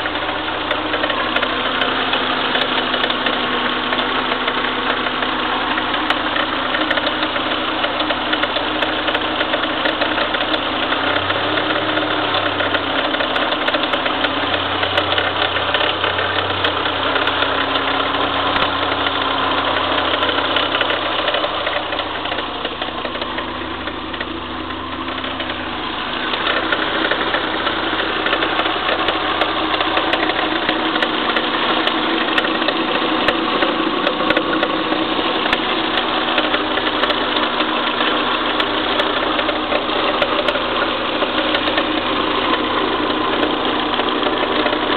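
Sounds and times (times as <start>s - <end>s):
engine with fast mechanical clatter: 0.0s - 44.9s.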